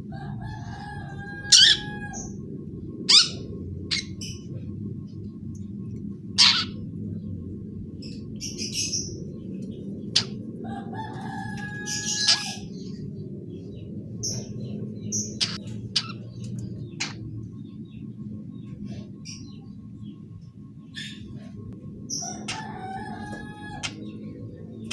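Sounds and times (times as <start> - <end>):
steady low hum: 0.0 - 24.9
bird chicks chattering: 0.1 - 4.5, 6.4 - 6.9, 8.0 - 24.9.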